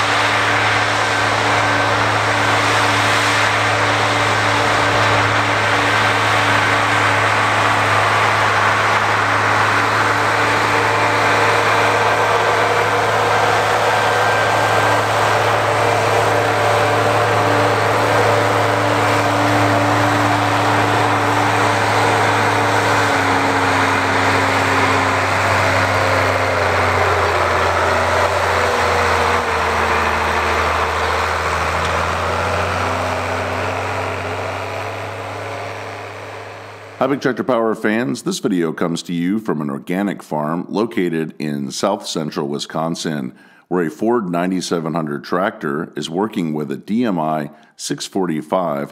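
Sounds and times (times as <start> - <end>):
tractor diesel engine under load: 0.0 - 40.1.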